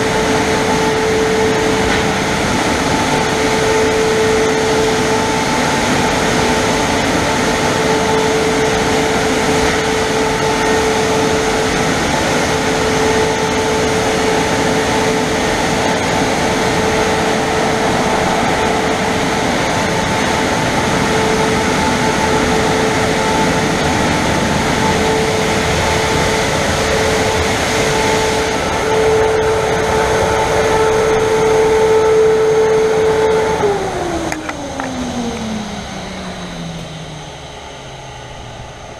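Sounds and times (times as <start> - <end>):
car wash blowers running: 0.0 - 38.9.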